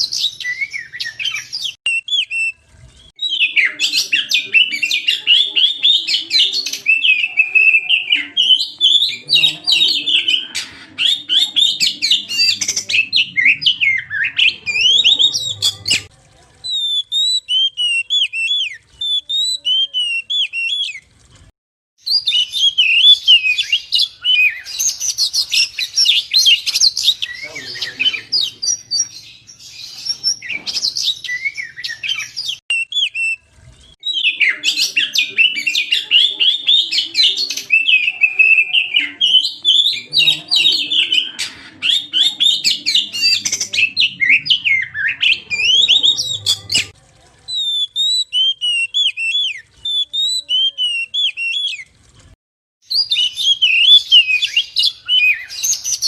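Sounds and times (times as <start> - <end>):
bird singing chirps and whistles: 0.0 - 16.1, 16.7 - 21.0, 22.0 - 46.9, 47.5 - 51.9, 52.9 - 56.0.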